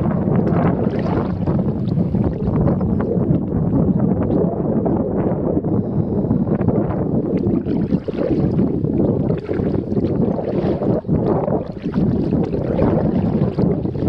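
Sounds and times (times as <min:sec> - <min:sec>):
water splashing around kayak: 0:00.0 - 0:05.4, 0:06.5 - 0:14.0
wind rumbling on microphone: 0:00.0 - 0:14.0.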